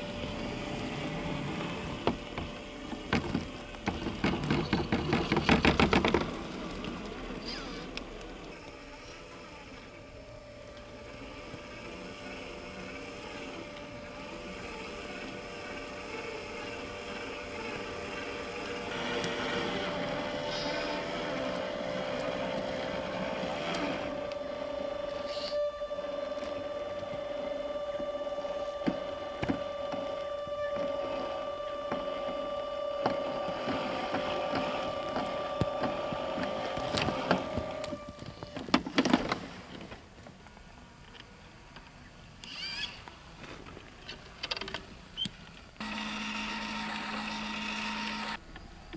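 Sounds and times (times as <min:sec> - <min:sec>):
toy truck motors whining: 0:00.0 - 0:40.0, 0:42.4 - 0:43.3, 0:44.2 - 0:48.5.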